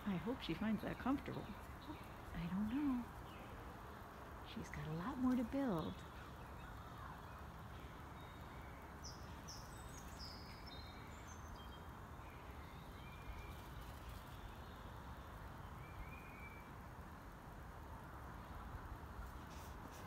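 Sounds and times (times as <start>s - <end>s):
faint birds chirping: 0.0s - 20.0s
low background noise: 0.0s - 20.0s.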